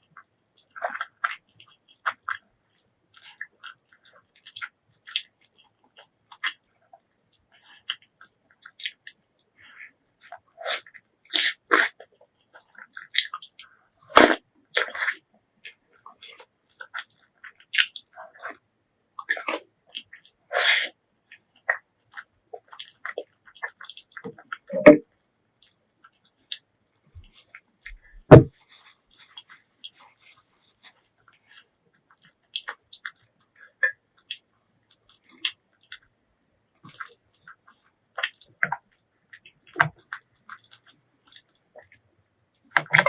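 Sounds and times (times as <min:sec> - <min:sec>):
wet chewing: 0:00.1 - 0:18.6, 0:19.2 - 0:36.2, 0:36.8 - 0:43.0.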